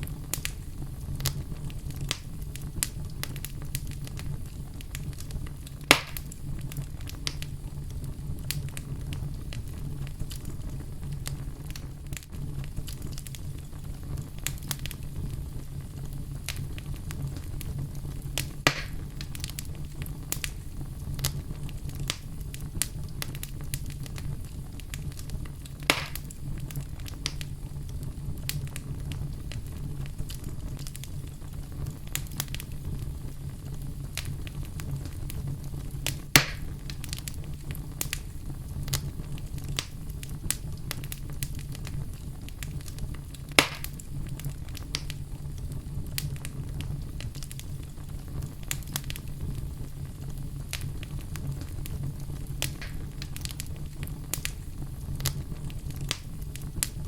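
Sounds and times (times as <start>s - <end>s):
loud fire pops: 0.0s - 57.0s
wood fire crackling in fireplace: 0.0s - 57.0s.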